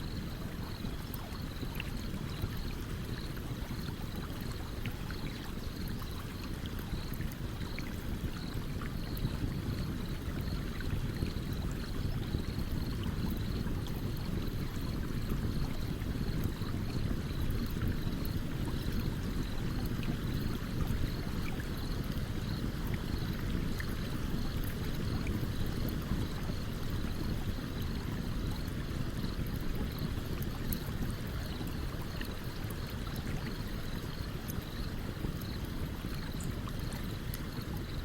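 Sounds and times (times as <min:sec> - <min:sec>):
faint campfire crackles: 0:00.0 - 0:38.0
stream water running: 0:00.0 - 0:38.0.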